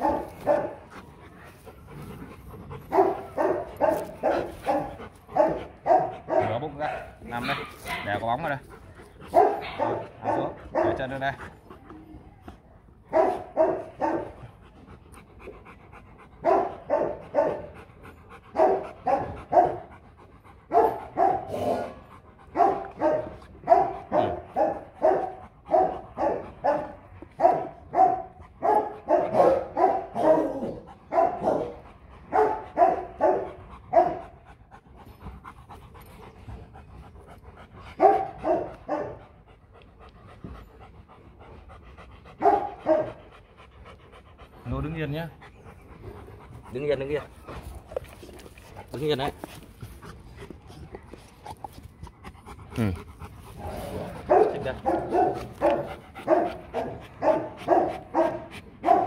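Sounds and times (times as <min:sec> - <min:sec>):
dog panting hard: 0:00.0 - 0:59.0.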